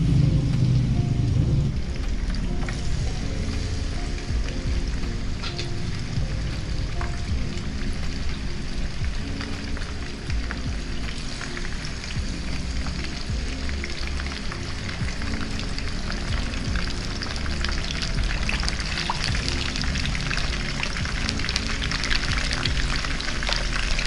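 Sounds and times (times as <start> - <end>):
background music: 0.0 - 24.0
fish frying in hot oil: 0.0 - 24.0.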